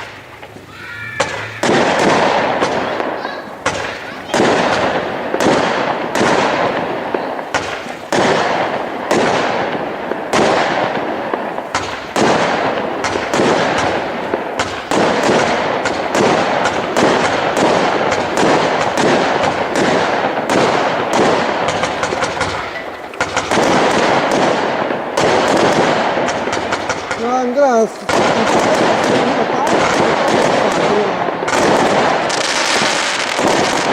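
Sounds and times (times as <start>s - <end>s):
fireworks bangs: 0.0s - 33.9s
fireworks crackling: 0.0s - 33.9s.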